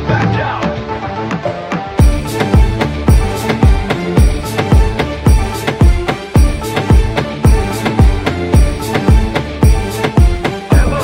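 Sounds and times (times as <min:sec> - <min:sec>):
electronic music with heavy beat: 0:02.0 - 0:11.0.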